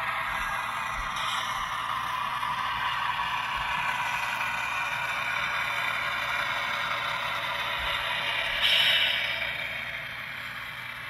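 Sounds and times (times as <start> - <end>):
model train wheels rattling: 0.0 - 11.0.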